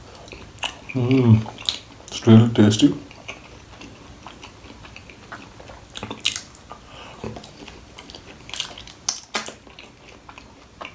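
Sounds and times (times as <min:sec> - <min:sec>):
chewing crunchy fried food: 0:00.0 - 0:10.9.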